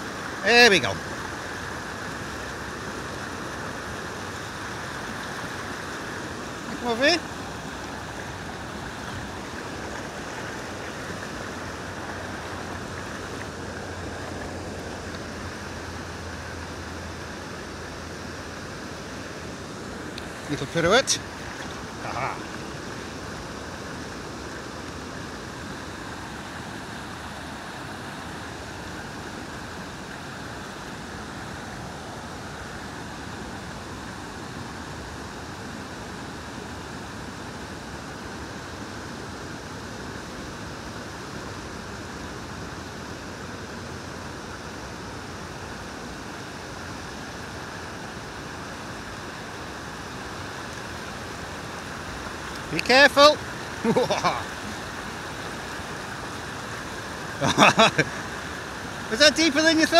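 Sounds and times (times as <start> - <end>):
river water rushing over weir: 0.0 - 59.9.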